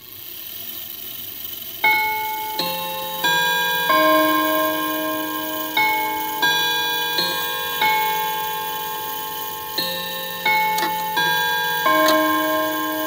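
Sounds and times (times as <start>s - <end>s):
clock chime melody on metal rods: 1.8s - 13.0s.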